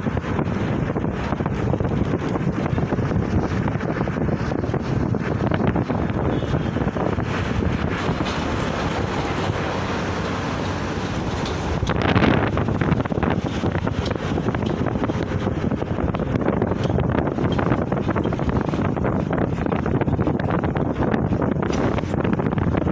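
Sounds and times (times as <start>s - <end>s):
road traffic rumble: 0.0s - 22.9s
wind buffeting microphone: 0.0s - 22.9s.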